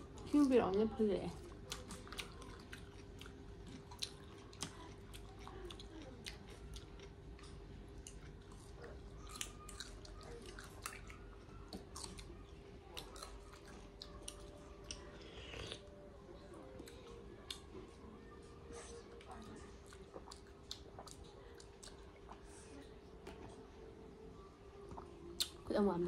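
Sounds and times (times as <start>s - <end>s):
faint steady hum: 0.0s - 26.0s
people chewing crunchy food: 1.3s - 23.0s.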